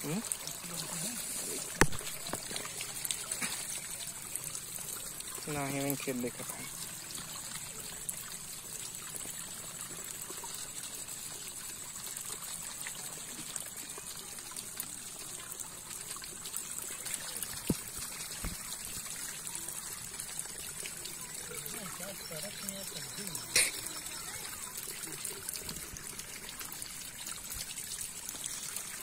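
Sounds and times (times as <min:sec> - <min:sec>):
wet trickling and crackling: 0:00.0 - 0:29.0.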